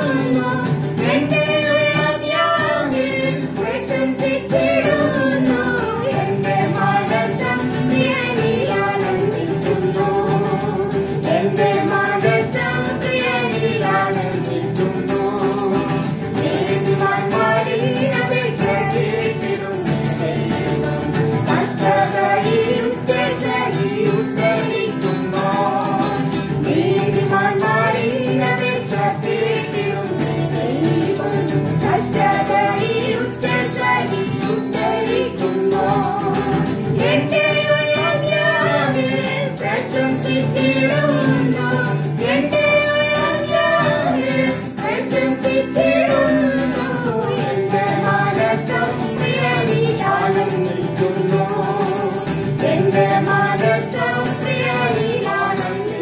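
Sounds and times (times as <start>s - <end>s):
acoustic guitar: 0.0s - 56.0s
people singing together: 0.0s - 56.0s.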